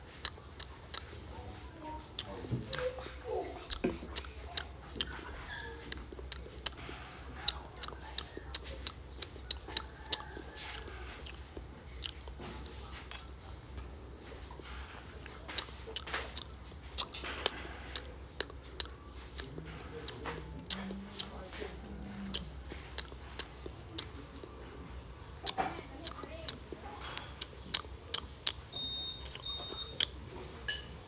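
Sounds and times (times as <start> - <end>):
man chewing and smacking: 0.0 - 1.4, 2.1 - 13.3, 14.2 - 30.4.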